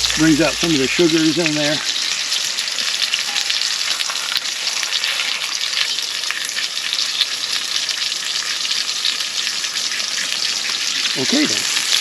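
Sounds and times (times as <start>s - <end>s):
dough and ham sizzling in a pan: 0.0s - 12.0s.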